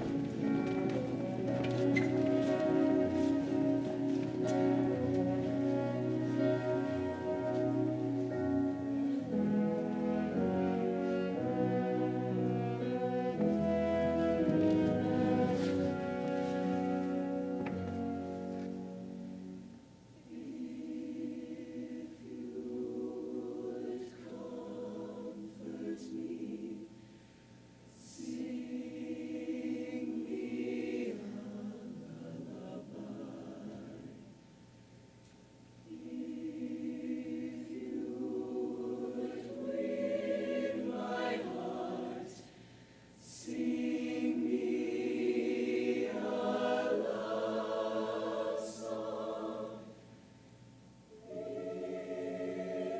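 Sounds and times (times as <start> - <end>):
show choir singing in harmony: 0.0 - 27.1, 27.9 - 34.4, 35.8 - 50.3, 51.1 - 52.9.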